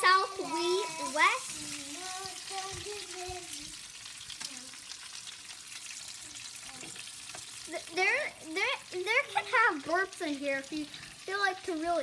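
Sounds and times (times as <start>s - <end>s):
food sizzling in hot oil: 0.0s - 12.0s
oil crackling and popping: 0.0s - 12.0s.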